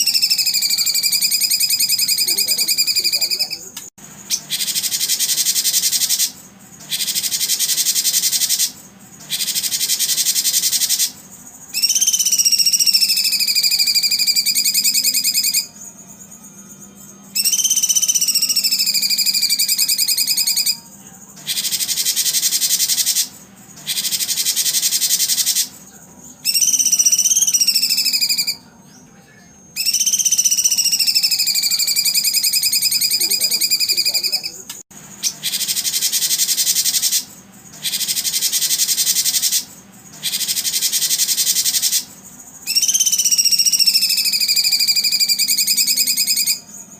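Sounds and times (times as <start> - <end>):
long whistled bird calls: 0.0 - 15.8, 17.3 - 20.8, 21.4 - 25.8, 26.4 - 28.7, 29.7 - 34.6, 35.2 - 46.8
high rapidly pulsed chirring: 0.0 - 28.7, 29.6 - 46.9.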